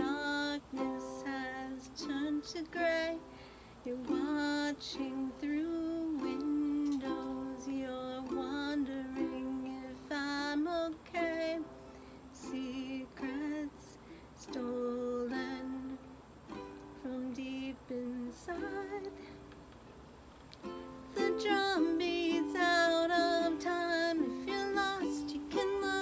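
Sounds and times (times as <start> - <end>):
woman singing slow song: 0.0 - 19.6, 20.6 - 26.0
ukulele: 0.0 - 26.0.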